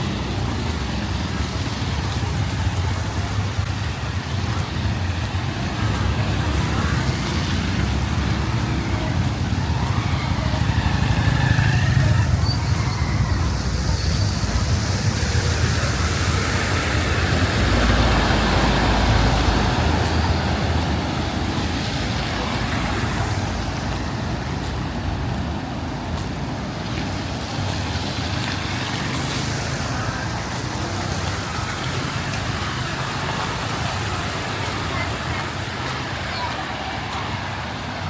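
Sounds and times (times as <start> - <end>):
traffic hum: 0.0 - 38.0
vehicles passing: 0.0 - 38.0.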